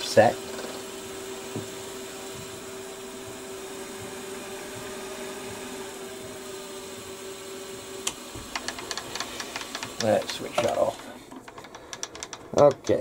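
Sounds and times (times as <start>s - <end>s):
milling machine motor humming: 0.0s - 13.0s.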